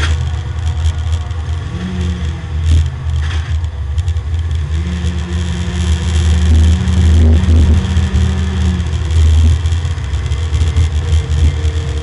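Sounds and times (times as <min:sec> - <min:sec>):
race car engine from cabin: 0:00.0 - 0:12.0.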